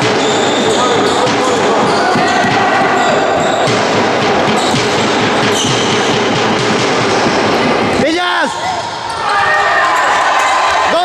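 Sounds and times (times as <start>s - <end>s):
spectators cheering: 0.0s - 11.0s.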